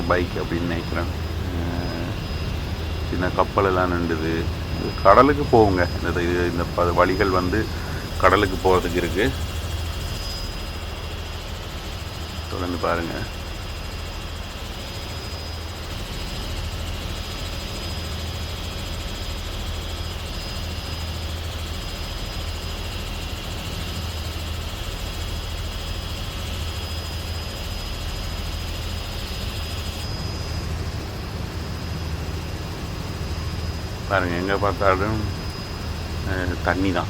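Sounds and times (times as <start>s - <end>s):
helicopter rotor and engine: 0.0s - 37.0s.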